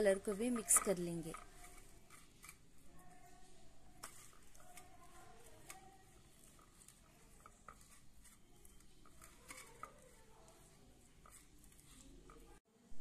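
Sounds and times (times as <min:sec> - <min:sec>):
fingers kneading dough on metal: 0:00.0 - 0:12.6.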